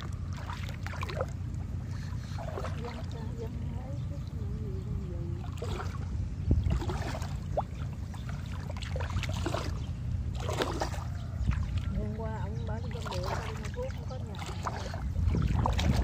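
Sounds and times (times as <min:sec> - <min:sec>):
steady low rumble: 0:00.0 - 0:16.0
water splashing and sloshing: 0:00.0 - 0:16.0.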